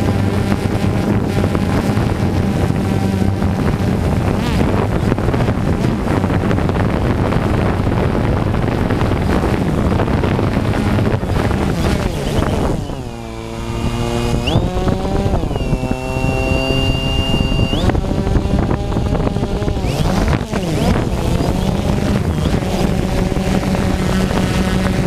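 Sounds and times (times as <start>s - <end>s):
drone motors whining: 0.0s - 25.0s
wind rush on microphone: 0.0s - 25.0s.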